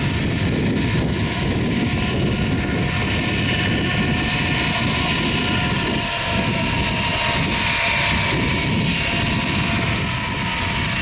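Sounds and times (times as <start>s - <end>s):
jet engines whining: 0.0s - 11.0s.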